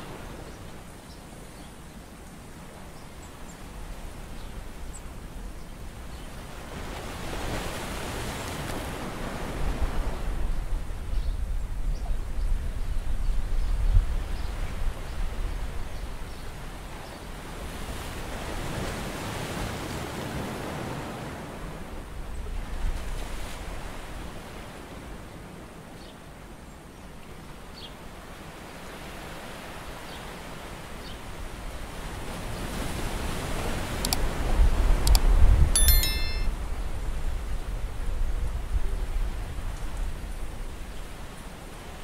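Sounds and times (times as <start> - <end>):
wind: 0.0 - 42.0.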